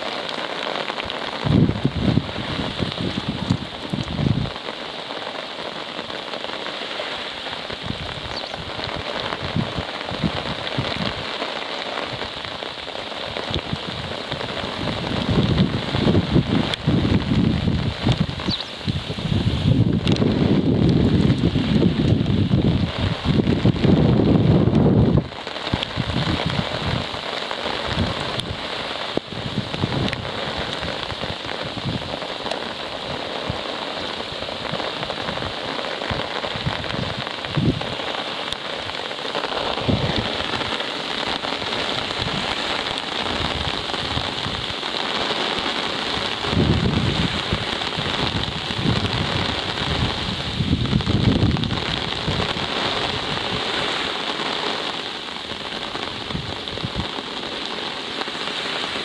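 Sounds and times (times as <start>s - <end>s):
rain falling: 0.0s - 59.0s
wind buffeting microphone: 0.9s - 4.8s, 7.3s - 11.4s, 13.2s - 57.8s.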